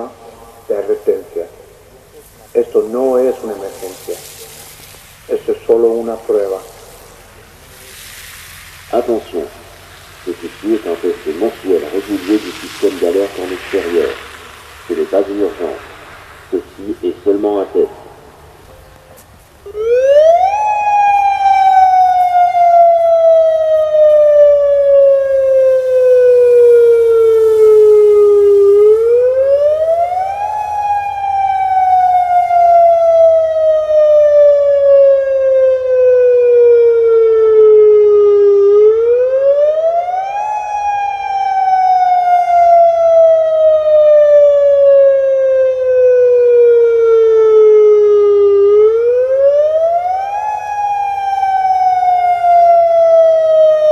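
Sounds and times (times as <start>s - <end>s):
warning siren rising and falling: 8.9s - 53.9s.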